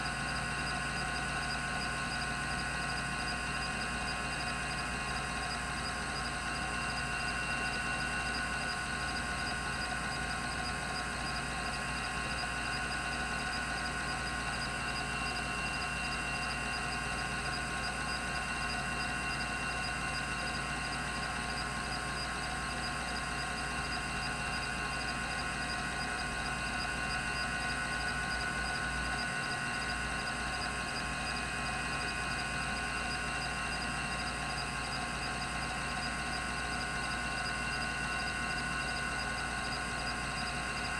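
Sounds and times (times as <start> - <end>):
hard drive spinning whine: 0.0 - 40.9.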